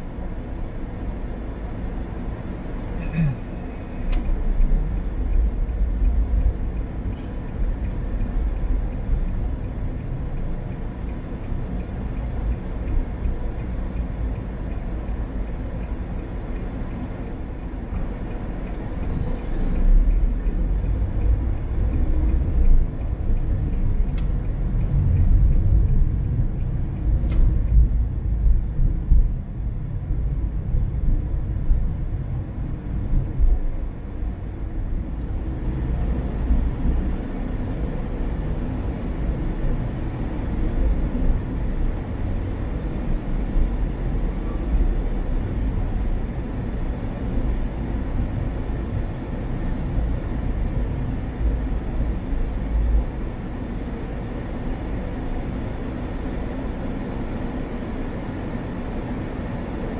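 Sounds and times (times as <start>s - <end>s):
car tyres and engine rumbling: 0.0s - 59.9s.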